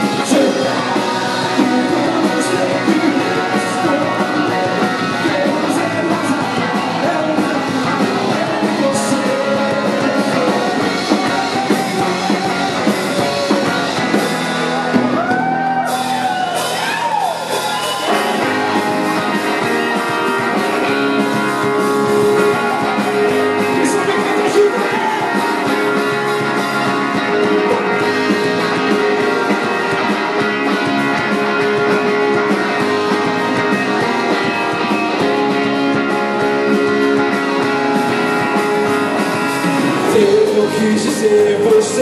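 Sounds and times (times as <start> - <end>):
person singing: 0.0 - 14.0, 17.9 - 42.0
rock guitars: 0.0 - 42.0
sliding bending guitar notes: 0.0 - 42.0.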